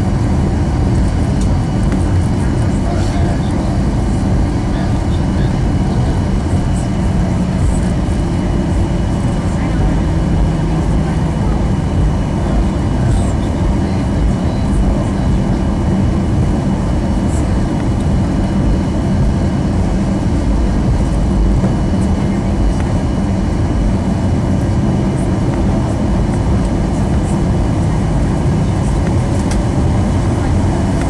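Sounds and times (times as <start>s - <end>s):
jet engine low rumble: 0.0s - 31.0s.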